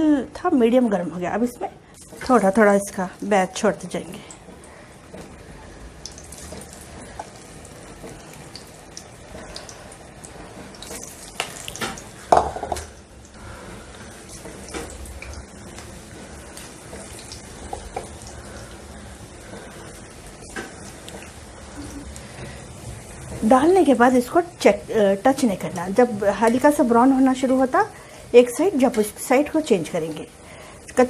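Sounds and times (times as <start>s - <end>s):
deep-frying sizzle with crackling pops: 1.3s - 31.0s.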